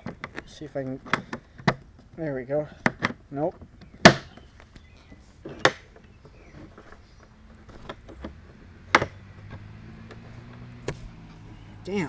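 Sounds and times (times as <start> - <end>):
handling clicks and knocks: 0.0 - 11.6.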